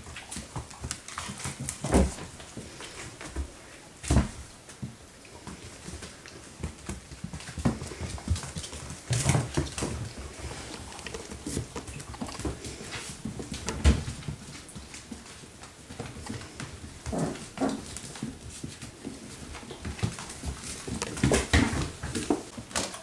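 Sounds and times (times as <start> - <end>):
dog paws clicking on hard floor: 0.0 - 23.0.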